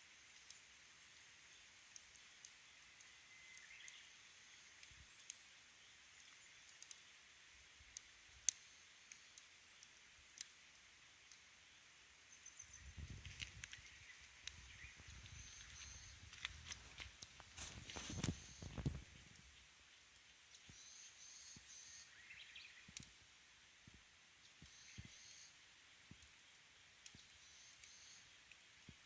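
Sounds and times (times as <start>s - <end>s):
campfire crackling: 0.0s - 29.0s
faint high hiss: 0.0s - 29.0s.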